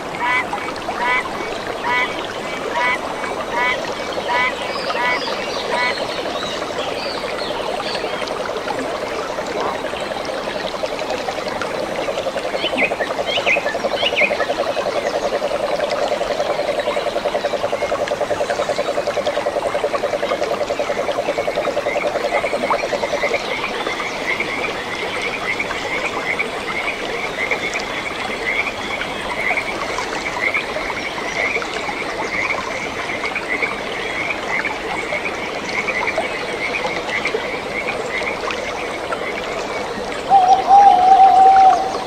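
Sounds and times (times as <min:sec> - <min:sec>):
running water: 0:00.0 - 0:42.0.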